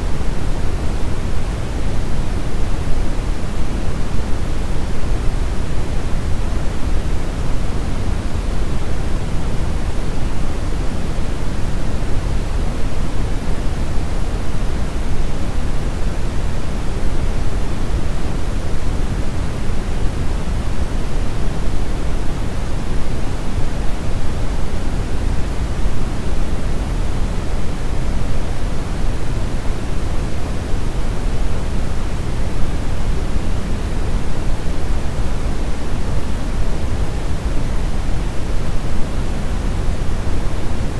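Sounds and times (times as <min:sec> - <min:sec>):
brown noise rumbling hiss: 0:00.0 - 0:40.9.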